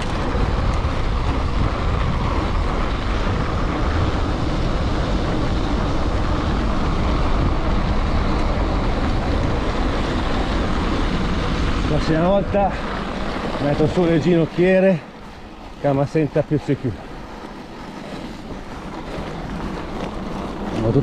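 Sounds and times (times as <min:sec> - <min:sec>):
studded tyres rumbling on snow: 0:00.0 - 0:21.0
wind buffeting microphone: 0:00.0 - 0:21.0.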